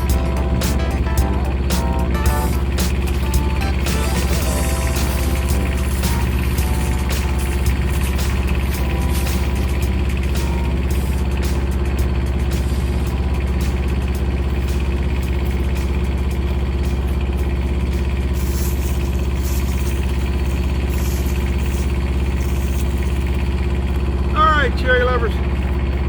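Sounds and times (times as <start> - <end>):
large engine humming: 0.0 - 26.0.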